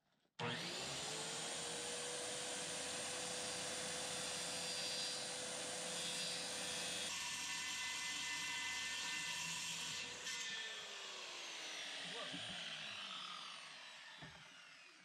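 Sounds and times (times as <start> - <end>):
circular saw cutting plywood: 0.4 - 15.0.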